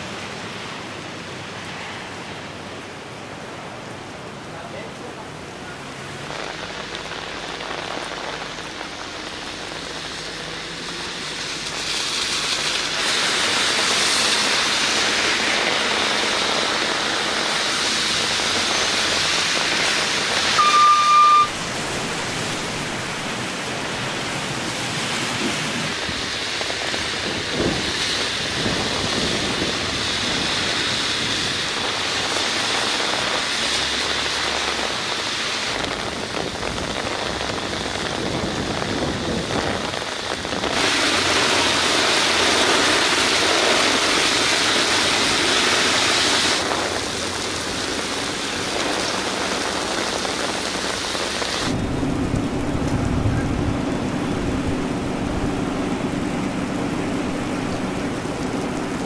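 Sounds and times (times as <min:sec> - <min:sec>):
heavy rain on street: 0:00.0 - 0:59.0.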